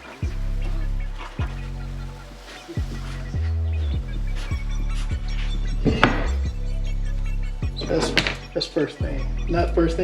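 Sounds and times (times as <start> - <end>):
music with sliding bass line: 0.0 - 10.0.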